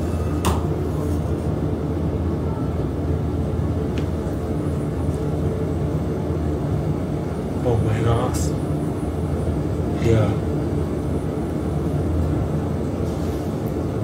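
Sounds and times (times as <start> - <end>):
potter's wheel motor hum: 0.0 - 14.0.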